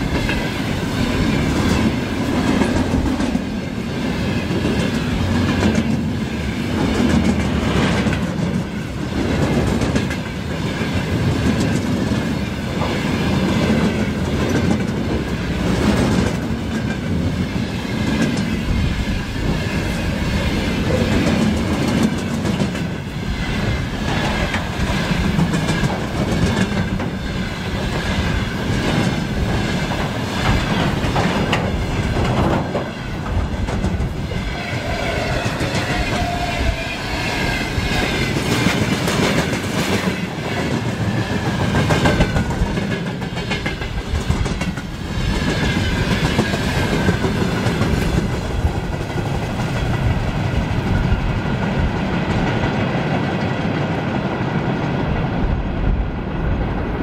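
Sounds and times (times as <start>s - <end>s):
train wheels clattering over rail joints: 0.0s - 54.4s
train rumble: 0.0s - 57.0s.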